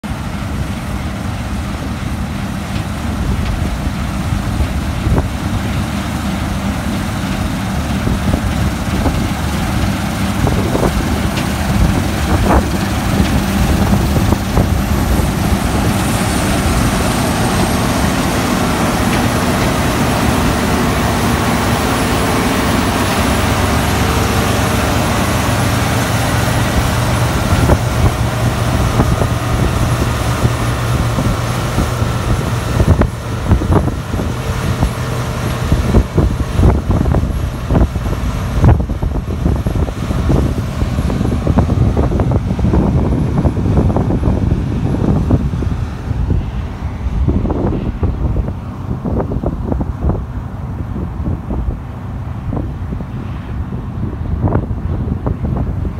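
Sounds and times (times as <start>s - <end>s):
combine harvester engine droning: 0.0s - 55.9s.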